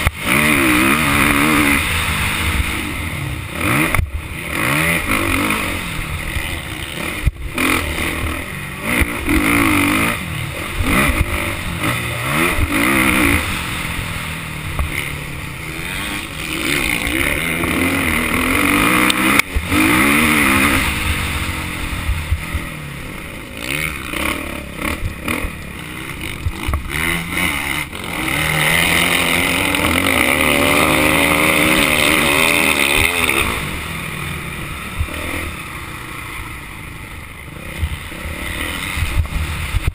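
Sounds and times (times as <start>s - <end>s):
motocross motorcycle engine revving: 0.0s - 39.9s.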